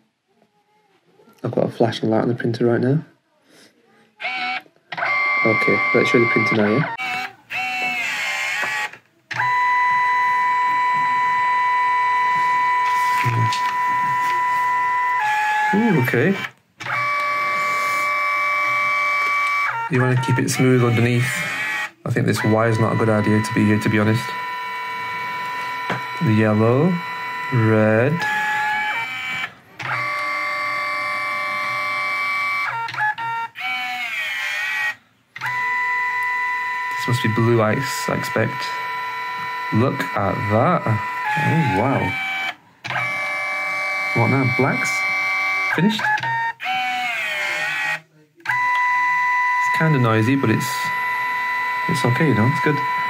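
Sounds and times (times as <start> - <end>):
printer motor whine: 4.2 - 53.0.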